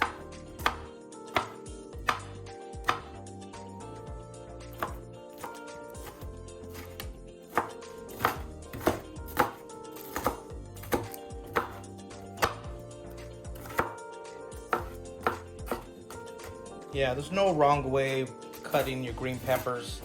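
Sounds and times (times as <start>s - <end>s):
knife chopping pepper: 0.0s - 3.1s, 4.7s - 14.0s, 14.6s - 16.6s, 18.1s - 20.0s.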